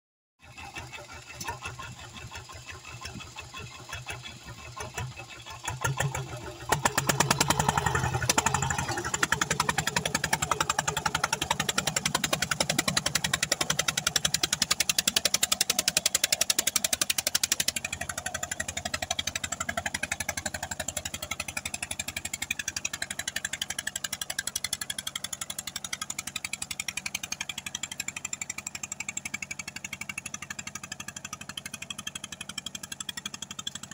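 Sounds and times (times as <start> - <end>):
diesel tiller engine chugging: 0.4 - 33.9.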